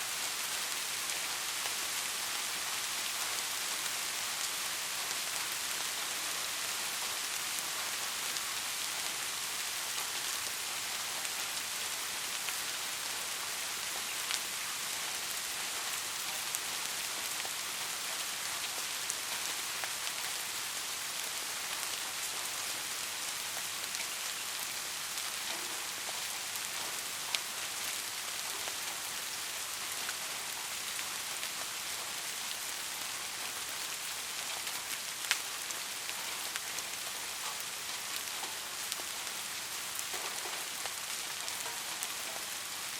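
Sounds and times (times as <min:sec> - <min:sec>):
steady rainfall: 0:00.0 - 0:42.9.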